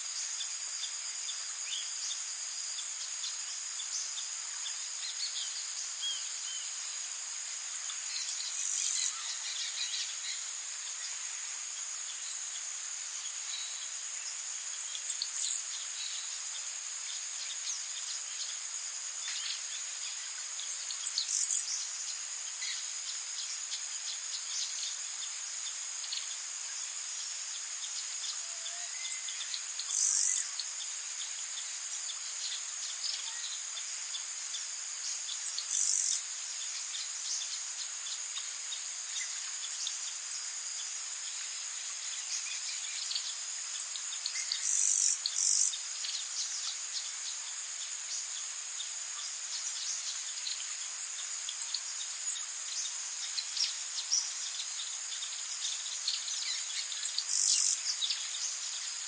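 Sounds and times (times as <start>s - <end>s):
insects chorus: 0.0s - 59.0s.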